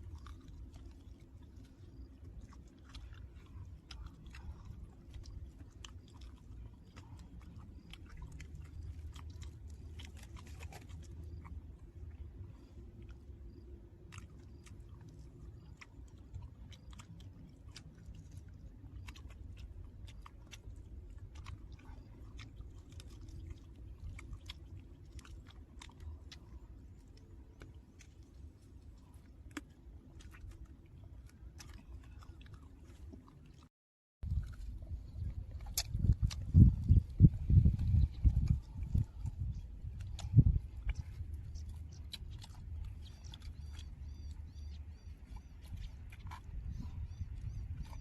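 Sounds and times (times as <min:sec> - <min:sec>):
person chewing and eating: 0:00.0 - 0:48.0.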